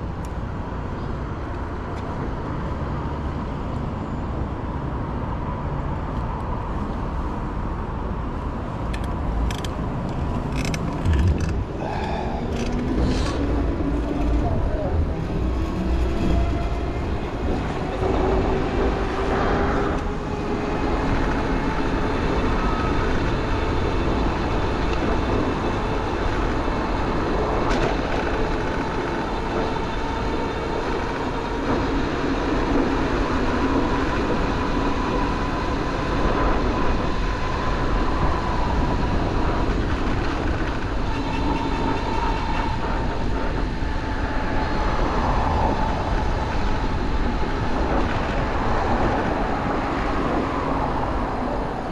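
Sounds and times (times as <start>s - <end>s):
street traffic: 0.0s - 51.9s
streetcar electric whine: 0.0s - 51.9s
wind: 0.0s - 51.9s.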